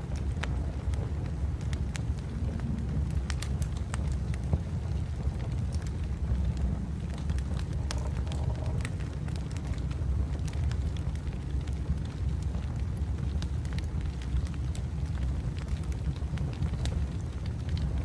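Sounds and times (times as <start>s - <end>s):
low rumble: 0.0s - 18.0s
wood fire crackling: 0.0s - 18.0s.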